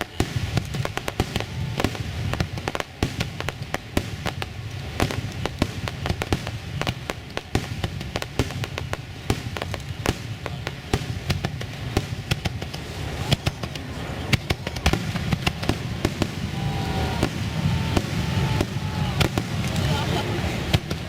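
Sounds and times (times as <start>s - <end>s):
fireworks cracks and bangs: 0.0s - 21.0s.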